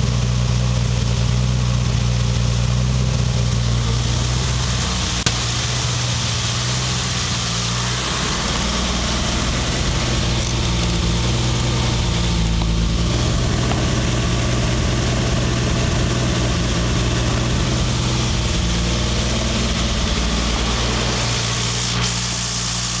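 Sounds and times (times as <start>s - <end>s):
car engine idling: 0.0s - 23.0s
valve train ticking: 3.7s - 23.0s.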